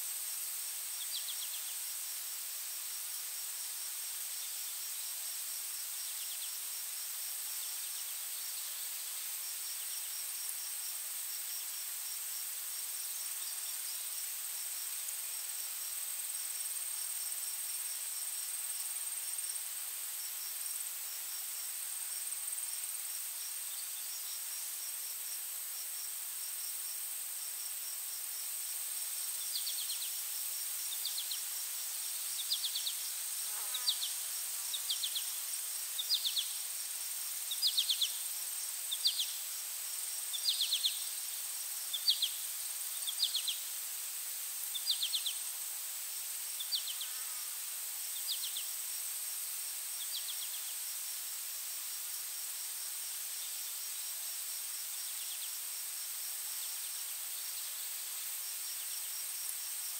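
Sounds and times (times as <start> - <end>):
high insect drone: 0.0 - 59.9
pulsing insect chirp: 2.9 - 50.9.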